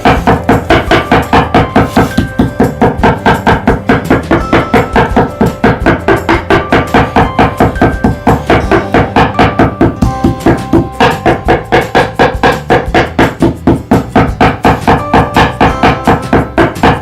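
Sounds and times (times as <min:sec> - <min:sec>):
upbeat background music: 0:00.0 - 0:17.0.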